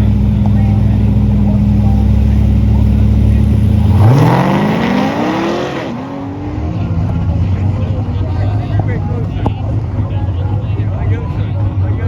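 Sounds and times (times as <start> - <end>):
drag car engine accelerating: 0.0 - 12.0.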